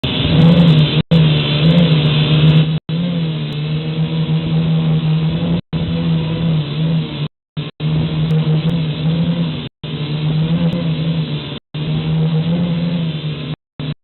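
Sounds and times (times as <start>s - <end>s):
quadcopter propellers buzzing: 0.0s - 14.0s.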